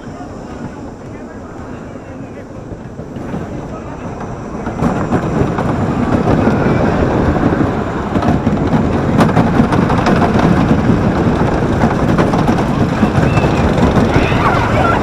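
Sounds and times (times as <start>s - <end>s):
roller coaster clattering on track: 0.0s - 15.0s.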